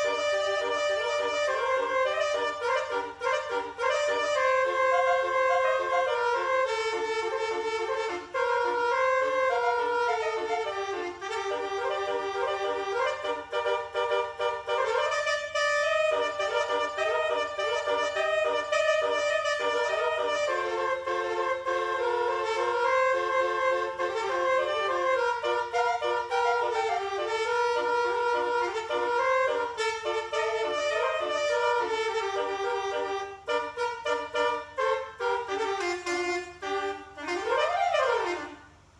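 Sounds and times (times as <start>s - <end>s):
bus horn playing a tune: 0.0s - 38.9s.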